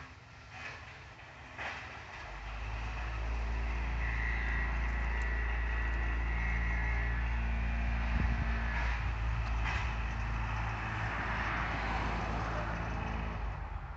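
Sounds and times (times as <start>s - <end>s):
vehicle engines rumbling: 0.0s - 13.9s.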